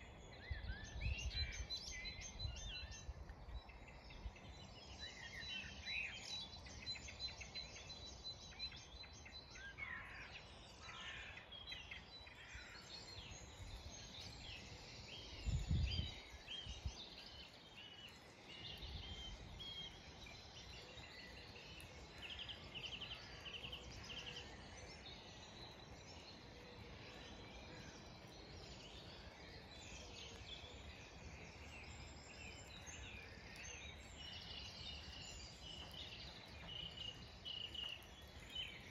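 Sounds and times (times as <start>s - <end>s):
songbirds singing and calling: 0.0s - 38.9s.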